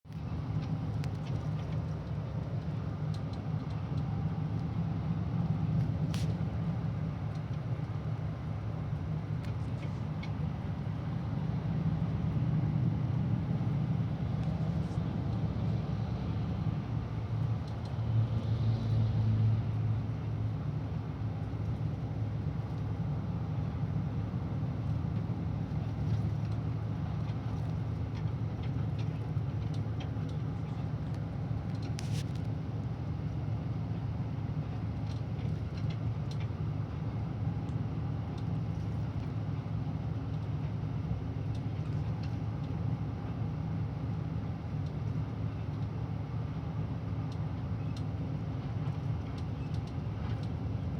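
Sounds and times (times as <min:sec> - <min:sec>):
diesel coach engine droning: 0:00.2 - 0:50.9.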